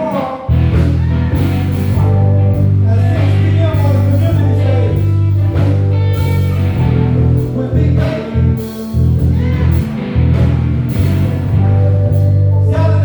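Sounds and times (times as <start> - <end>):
electric bass notes: 0.0 - 13.0
live band music: 0.0 - 13.0.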